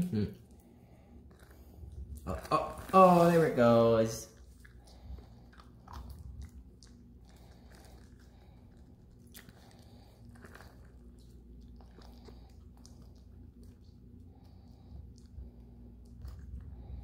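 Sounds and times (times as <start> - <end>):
puppy crunching dry kibble: 0.4 - 17.0.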